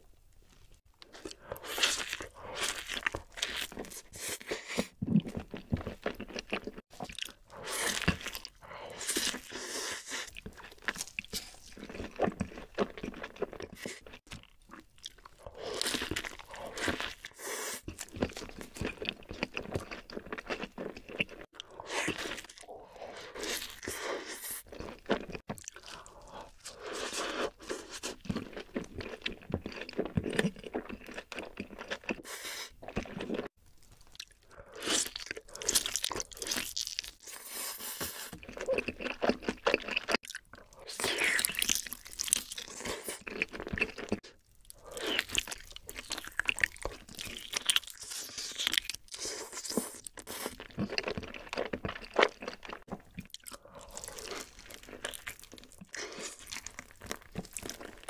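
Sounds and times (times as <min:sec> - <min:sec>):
person crunching and chewing: 0:00.5 - 0:58.0.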